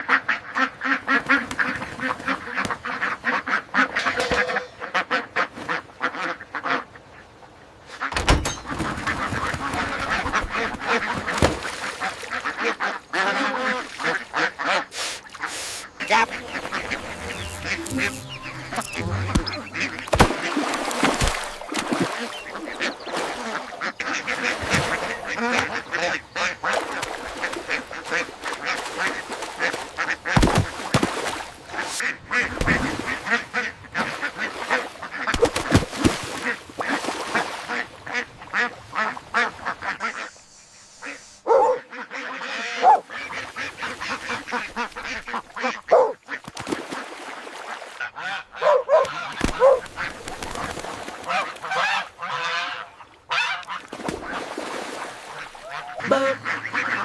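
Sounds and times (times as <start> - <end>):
ducks quacking: 0.0 - 30.7, 31.6 - 35.7, 36.3 - 54.4, 55.2 - 57.0.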